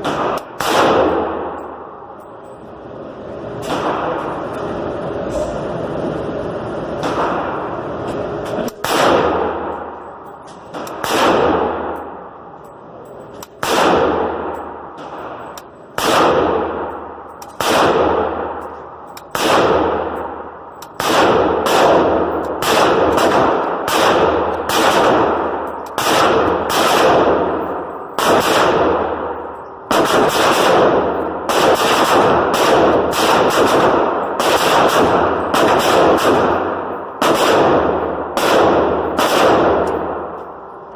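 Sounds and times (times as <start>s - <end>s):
rifle shots echoing: 0.0s - 2.0s, 3.6s - 4.5s, 7.0s - 7.9s, 8.8s - 12.4s, 13.4s - 40.7s.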